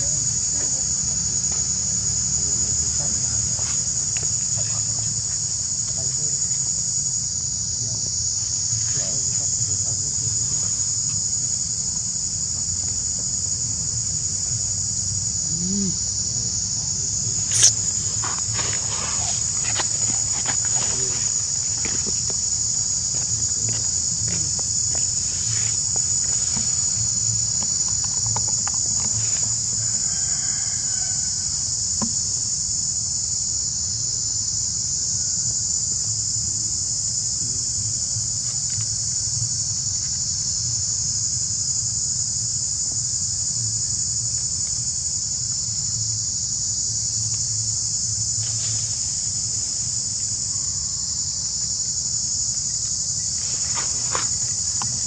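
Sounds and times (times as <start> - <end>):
insect chorus chirring: 0.0 - 55.0.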